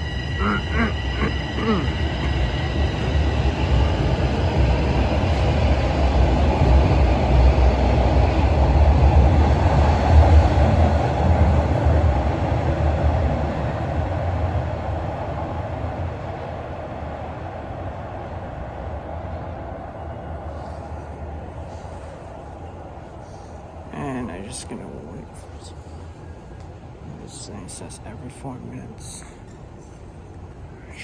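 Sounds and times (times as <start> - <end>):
subway train rumbling past: 0.0 - 31.0.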